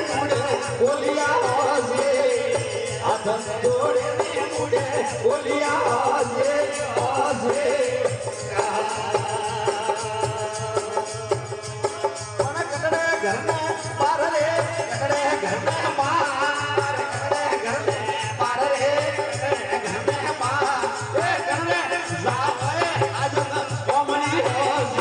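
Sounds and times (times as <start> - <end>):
jingling hand percussion: 0.0 - 25.0
person singing devotional song: 0.0 - 25.0.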